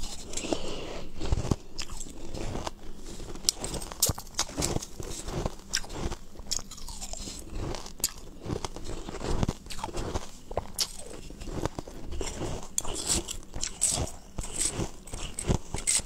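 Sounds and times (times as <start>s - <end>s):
crushed ice being chewed: 0.0s - 16.0s.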